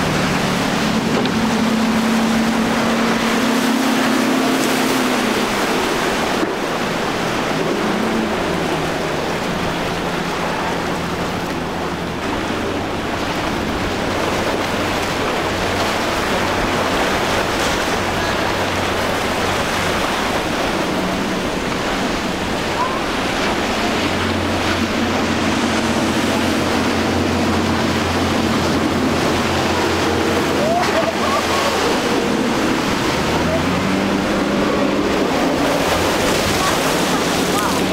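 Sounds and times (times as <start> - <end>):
boat engine drone: 0.0 - 37.9
breaking surf: 0.0 - 37.9
rush of wake and spray: 0.0 - 37.9.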